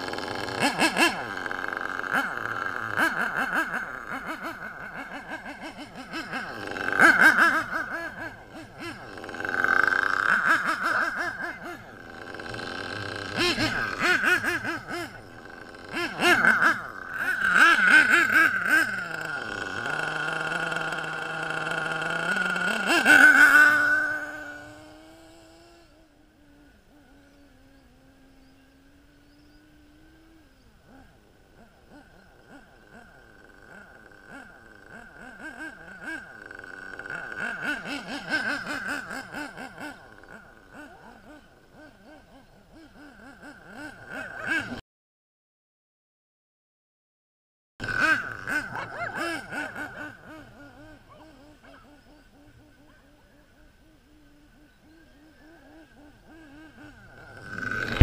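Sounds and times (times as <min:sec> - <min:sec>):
model car engine revving: 0:00.0 - 0:44.8, 0:47.8 - 0:58.0.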